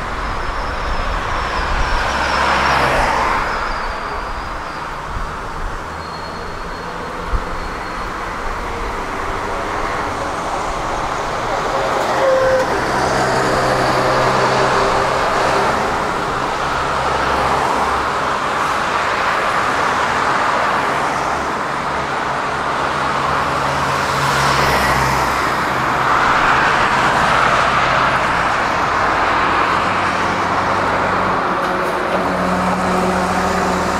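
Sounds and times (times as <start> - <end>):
cars passing close by: 0.0 - 33.9.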